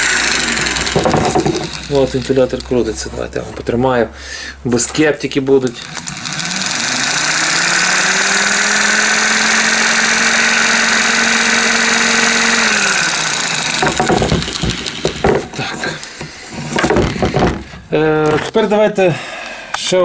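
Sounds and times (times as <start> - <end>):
blower fan motor humming: 0.0 - 18.0.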